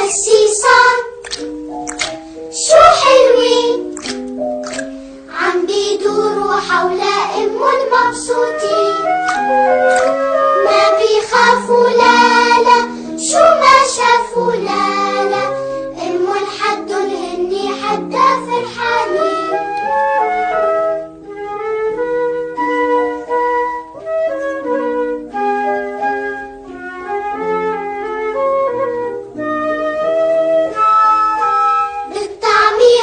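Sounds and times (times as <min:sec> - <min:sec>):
children's song music: 0:00.0 - 0:33.0.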